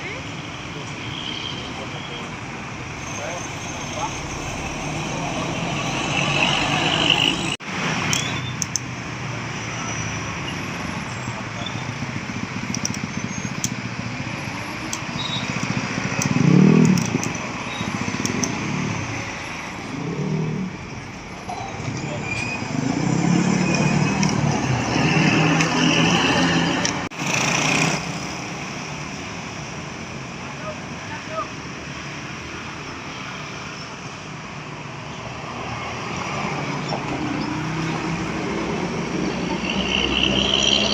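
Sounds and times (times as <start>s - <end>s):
steady road noise: 0.0s - 40.9s
vehicles passing: 0.0s - 40.9s.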